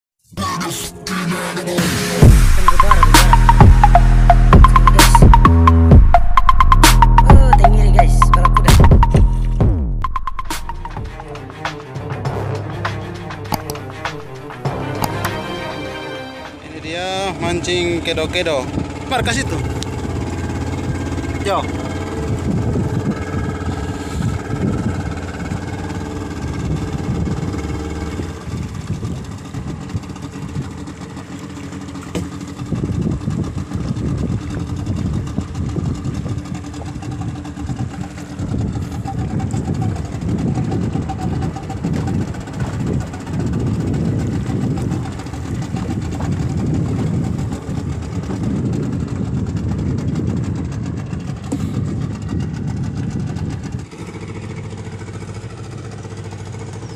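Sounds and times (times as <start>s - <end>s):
outboard motor humming: 1.0s - 56.9s.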